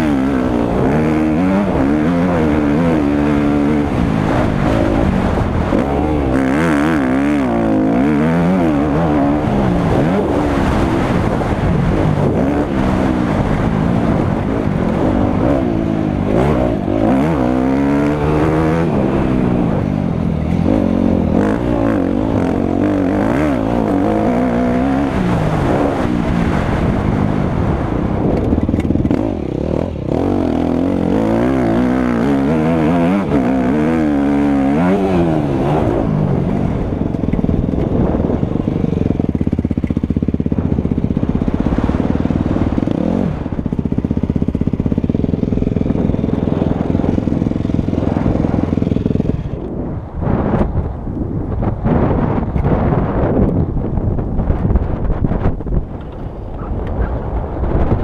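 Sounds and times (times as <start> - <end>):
motocross bike engine revving: 0.0 - 50.6.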